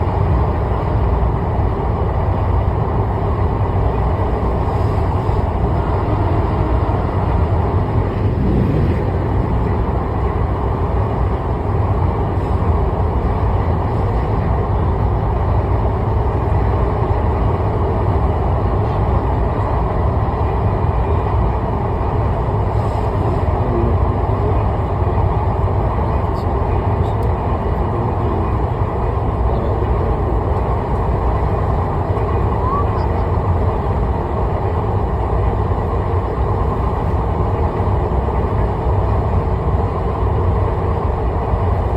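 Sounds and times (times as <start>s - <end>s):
vehicle rumble in motion: 0.0s - 41.9s.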